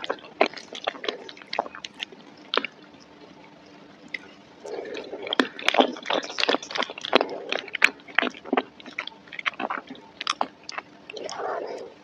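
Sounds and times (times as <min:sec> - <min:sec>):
wet chewing and mouth smacks: 0:00.0 - 0:03.3, 0:04.0 - 0:12.0.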